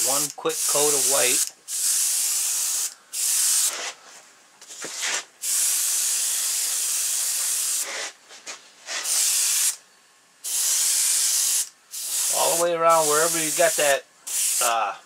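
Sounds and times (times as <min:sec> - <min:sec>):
airbrush spraying hiss: 0:00.1 - 0:04.0, 0:04.9 - 0:08.2, 0:08.9 - 0:09.8, 0:10.4 - 0:14.9.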